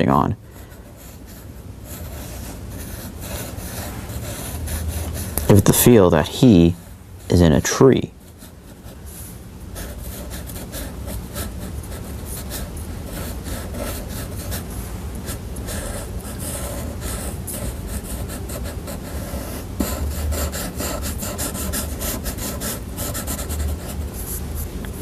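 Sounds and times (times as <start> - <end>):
marker scratching on paper: 0.6 - 6.3, 8.2 - 24.7.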